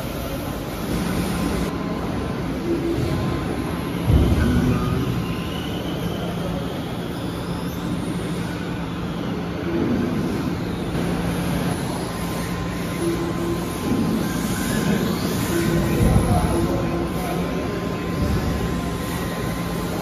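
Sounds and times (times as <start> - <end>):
rc car motor and tyre noise: 2.8 - 20.0.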